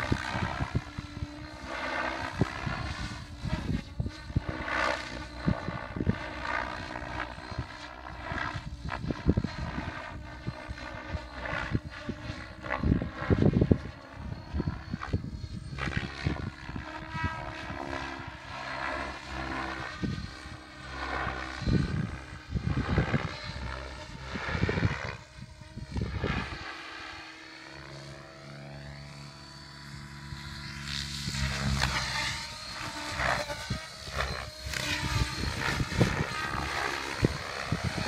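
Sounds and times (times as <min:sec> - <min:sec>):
model helicopter rotor and motor: 0:00.0 - 0:38.0.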